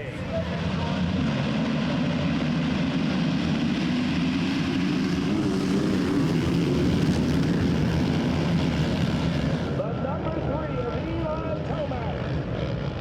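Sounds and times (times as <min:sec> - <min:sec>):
motocross bike engines droning: 0:00.0 - 0:13.0.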